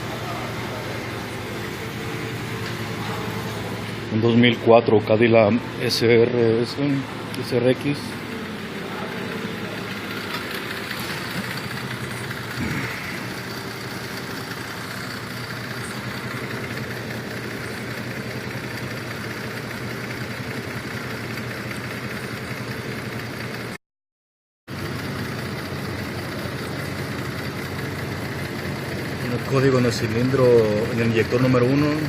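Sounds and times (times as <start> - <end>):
car engine idling with misfire: 0.0 - 23.8, 24.7 - 32.0.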